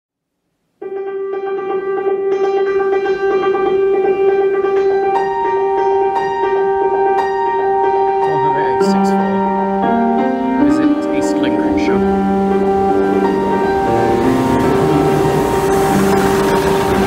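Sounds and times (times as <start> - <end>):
electronic synth chord: 1.5 - 17.0.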